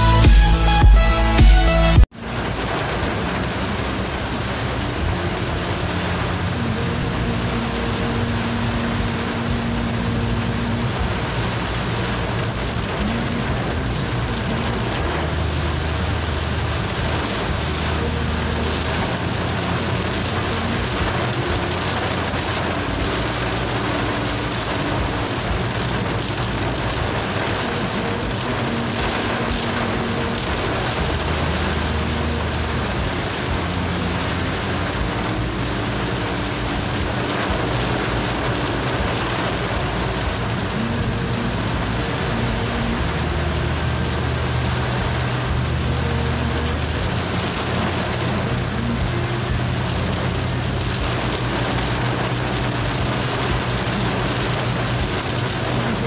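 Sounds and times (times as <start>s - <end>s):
heavy rain on car windshield: 2.0s - 56.0s.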